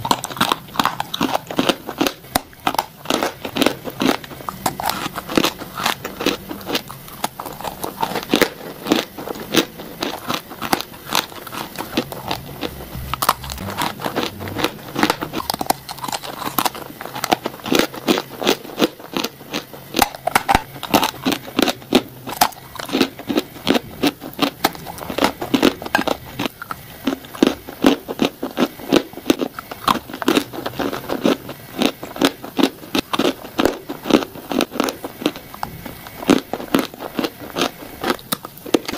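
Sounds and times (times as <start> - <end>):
crunching bites and chewing: 0.0 - 38.9.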